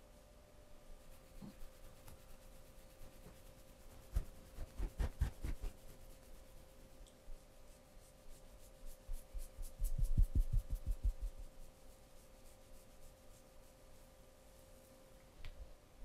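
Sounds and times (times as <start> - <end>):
faint steady hum: 0.0 - 16.0
hands rubbing skin in massage: 1.0 - 14.1.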